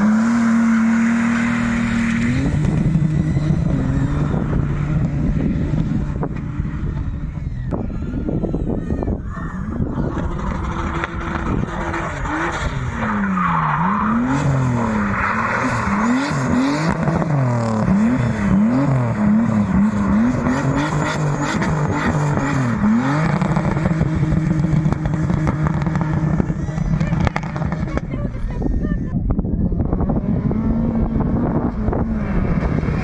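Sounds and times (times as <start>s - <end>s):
car engine revving: 0.0s - 28.6s, 29.8s - 33.0s.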